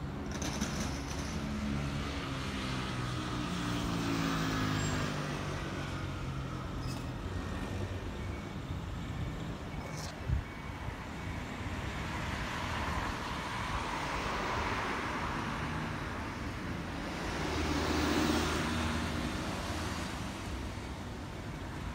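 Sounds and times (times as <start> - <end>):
road vehicles passing: 0.0 - 21.9.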